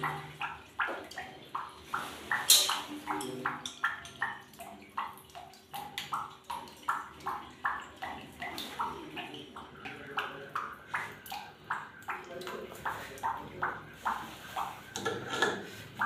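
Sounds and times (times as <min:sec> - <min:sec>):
water dripping into plastic bucket: 0:00.0 - 0:16.0.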